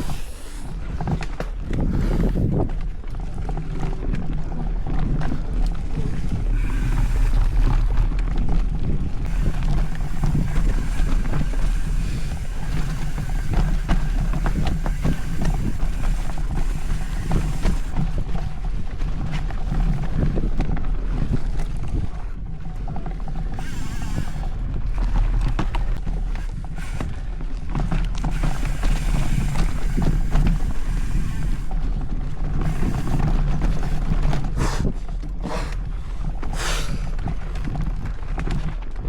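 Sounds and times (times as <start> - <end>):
mountain bike rumble and rattle: 0.0 - 39.0
wind buffeting microphone: 0.0 - 39.0.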